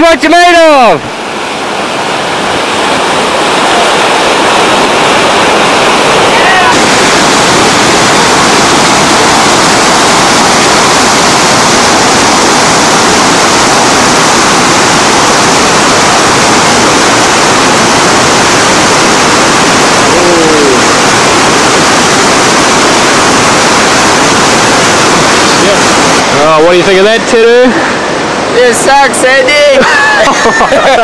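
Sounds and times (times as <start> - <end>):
whitewater rapids rushing: 0.0 - 31.0.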